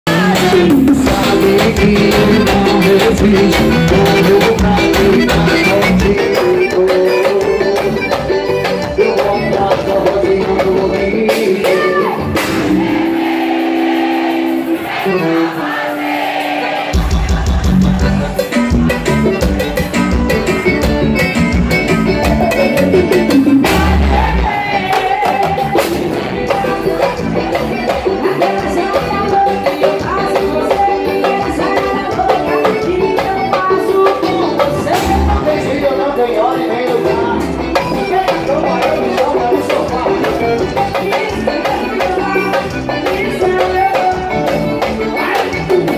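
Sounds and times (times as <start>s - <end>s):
bass guitar: 0.0s - 15.9s, 16.5s - 45.9s
drums: 0.0s - 45.9s.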